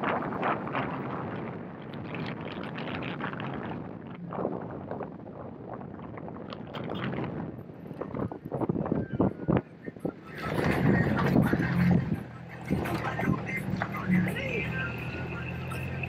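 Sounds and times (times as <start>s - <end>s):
gravel crackling under tyres: 0.0s - 16.0s
vehicle road noise: 0.0s - 16.0s.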